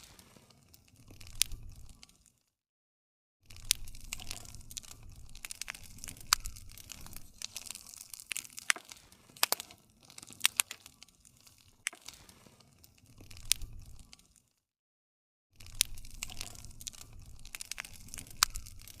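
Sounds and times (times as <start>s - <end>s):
wood fire crackling: 0.0s - 2.4s, 3.5s - 14.6s, 15.6s - 19.0s.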